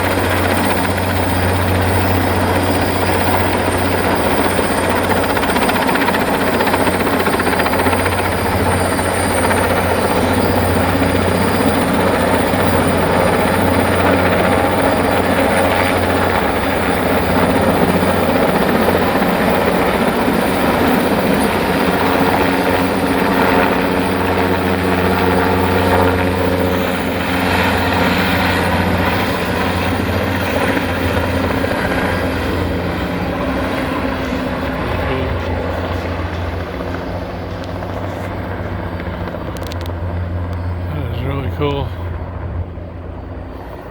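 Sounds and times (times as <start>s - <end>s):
helicopter rotor and engine: 0.0s - 43.9s
high turbine whine: 0.0s - 43.9s.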